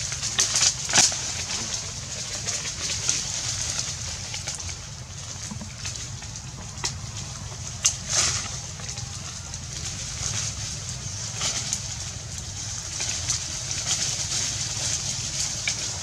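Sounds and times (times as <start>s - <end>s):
dry leaves rustling: 0.0s - 16.0s
low rumble: 0.0s - 16.0s.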